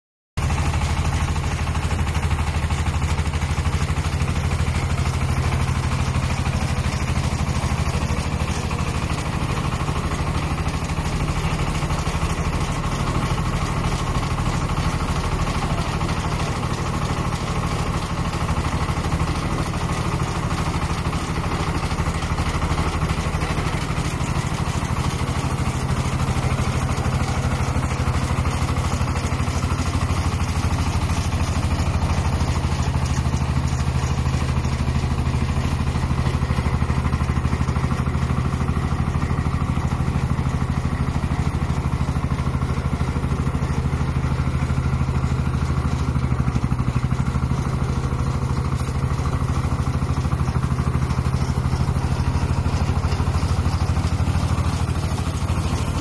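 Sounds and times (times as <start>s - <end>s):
engine running steadily: 0.4s - 56.0s.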